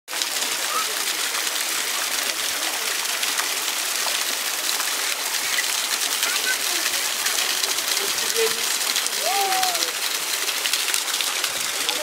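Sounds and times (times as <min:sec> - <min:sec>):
water splashing over rocks: 0:00.1 - 0:12.0.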